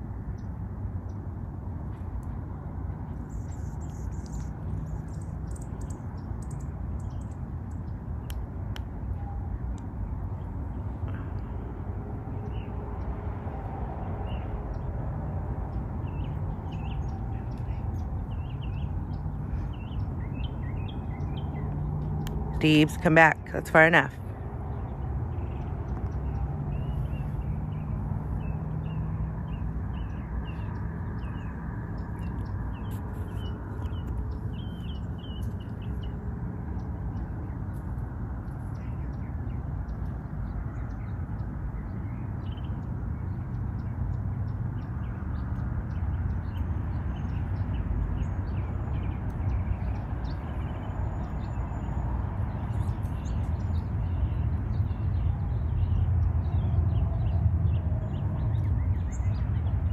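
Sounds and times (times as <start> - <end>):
small birds chirping: 3.1 - 8.5, 15.6 - 23.4, 24.2 - 59.9.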